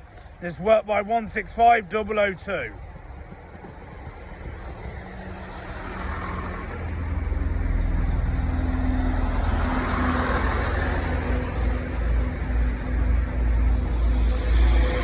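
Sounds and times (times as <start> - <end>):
diesel train engines rumbling: 0.0 - 15.0.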